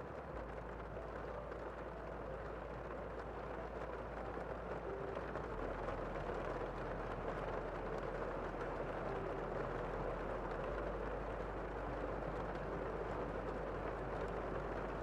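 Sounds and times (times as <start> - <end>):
muffled rain outside window: 0.0 - 15.0.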